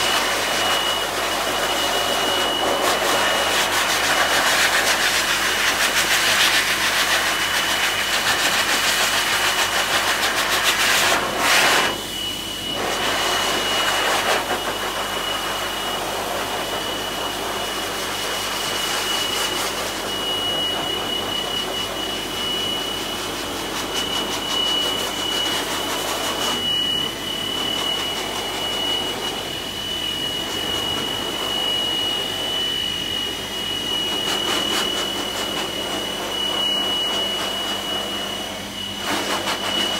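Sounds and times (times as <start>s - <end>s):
pet dryer blowing air: 0.0s - 39.9s.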